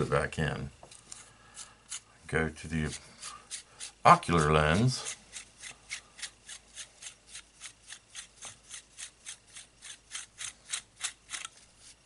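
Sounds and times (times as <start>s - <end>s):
dry rasping rub of twisting: 0.9s - 2.1s, 2.8s - 12.0s.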